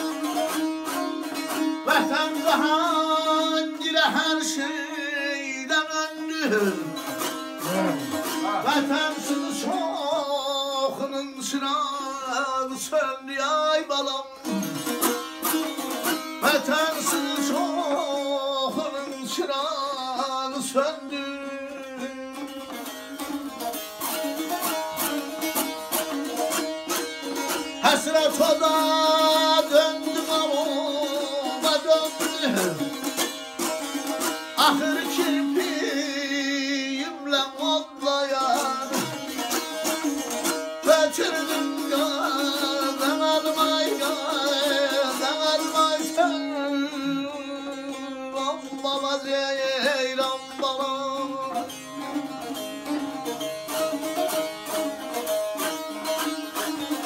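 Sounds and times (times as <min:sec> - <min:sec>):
lute strummed and plucked melody: 0:00.0 - 0:57.0.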